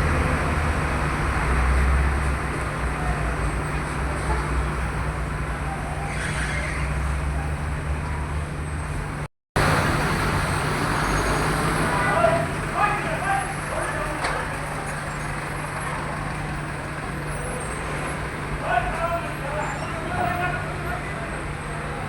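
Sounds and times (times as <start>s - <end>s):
idling and passing vehicles: 0.0s - 22.0s.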